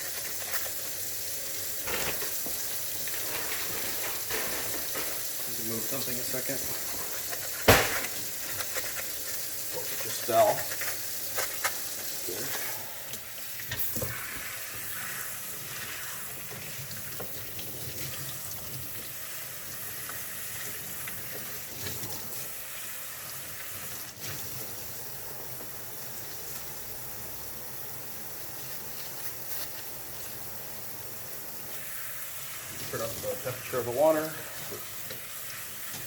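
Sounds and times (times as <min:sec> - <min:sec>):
tap water running into a sink: 0:00.0 - 0:36.0.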